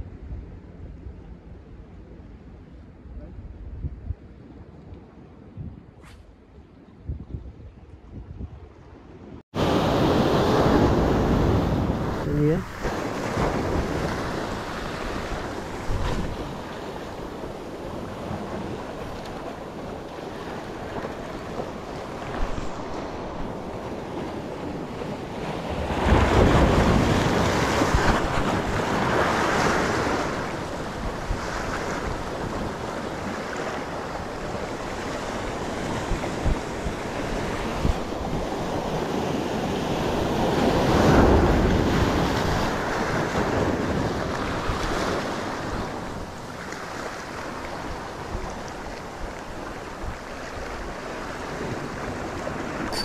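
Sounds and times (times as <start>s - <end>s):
wind buffeting microphone: 3.1s - 53.0s
waves breaking against rocks: 9.6s - 53.0s.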